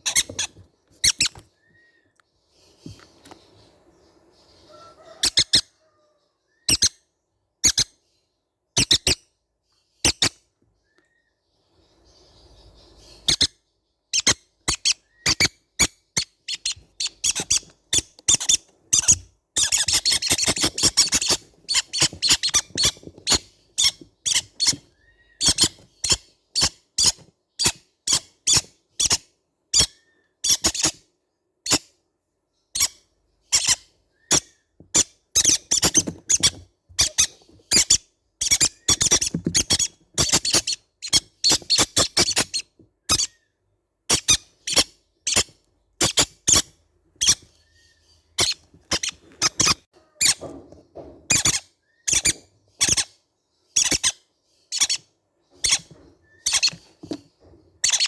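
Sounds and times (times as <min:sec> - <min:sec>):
baby parrots squeaky calls: 0:00.0 - 0:02.0, 0:04.5 - 0:07.0, 0:07.6 - 0:08.0, 0:08.8 - 0:09.3, 0:10.0 - 0:10.4, 0:12.2 - 0:31.9, 0:32.7 - 0:43.5, 0:44.1 - 0:50.6, 0:51.3 - 0:57.2, 0:57.8 - 0:58.0.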